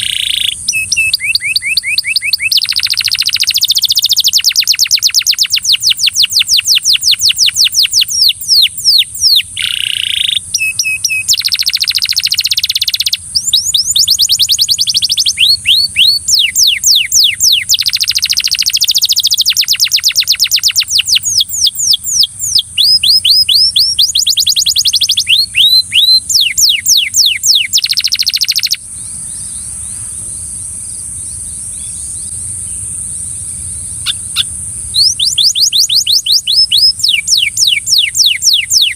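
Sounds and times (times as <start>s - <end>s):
steady high hiss: 0.0s - 22.8s, 23.6s - 38.9s
canary singing: 0.0s - 38.9s.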